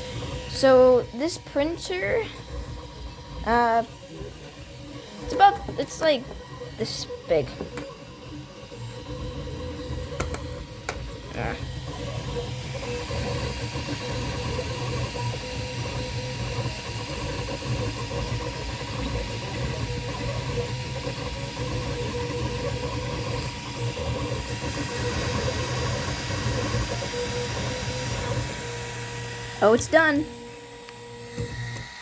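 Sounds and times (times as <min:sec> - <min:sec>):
printer motors and fan whirring: 0:00.0 - 0:32.0.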